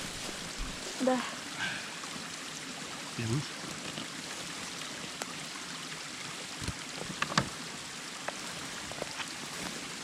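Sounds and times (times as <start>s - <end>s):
spring water running: 0.0s - 10.0s.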